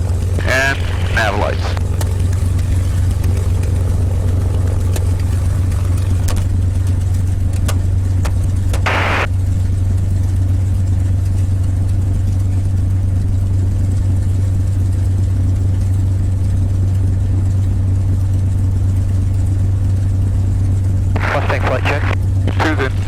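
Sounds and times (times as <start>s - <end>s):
aircraft engine idling: 0.0s - 23.0s.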